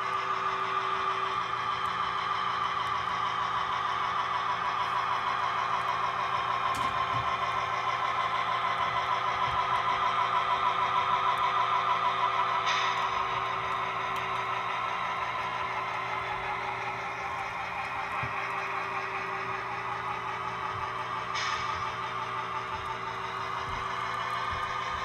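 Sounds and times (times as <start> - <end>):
model train engine drone: 0.0 - 25.0.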